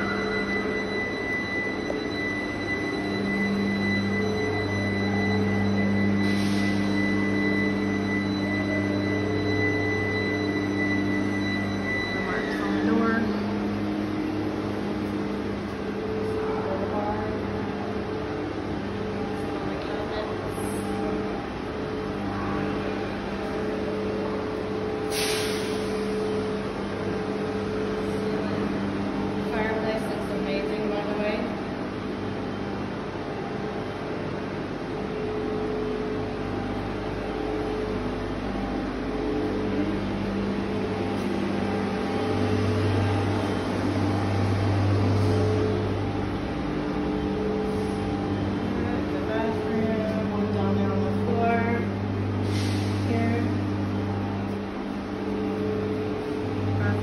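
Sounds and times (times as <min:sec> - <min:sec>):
low drone: 0:00.0 - 0:57.0
machine hum: 0:00.0 - 0:57.0.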